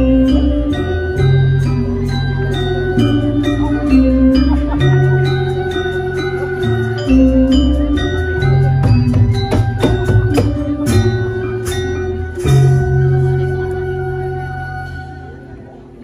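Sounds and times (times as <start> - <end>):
hand drum: 0.0 - 15.4
metallophones and gongs: 0.0 - 16.0.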